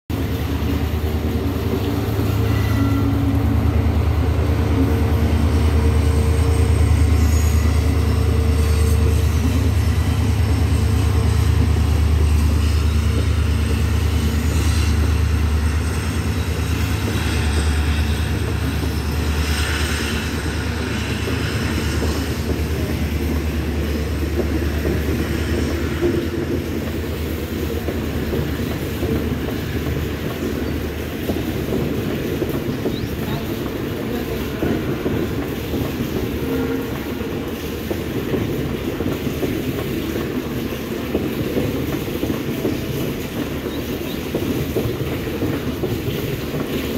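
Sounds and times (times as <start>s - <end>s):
train coaches rolling on rails: 0.1s - 46.9s.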